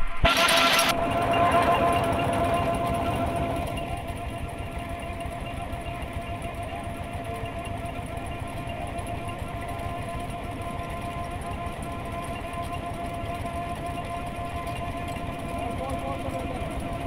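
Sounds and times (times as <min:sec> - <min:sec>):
steady whine: 0:00.0 - 0:17.0
engine idling with chugging: 0:00.3 - 0:17.0.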